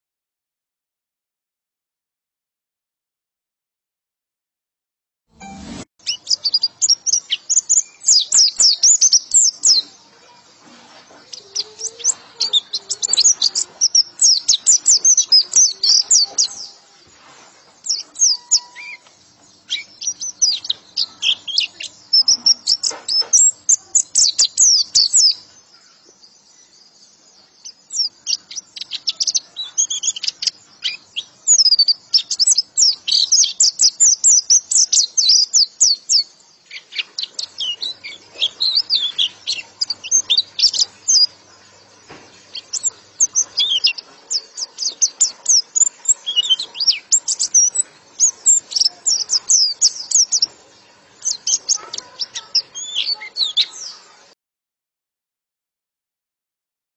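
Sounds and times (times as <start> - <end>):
bird rapid high chattering song: 5.4 - 17.1, 17.7 - 26.2, 27.4 - 54.4.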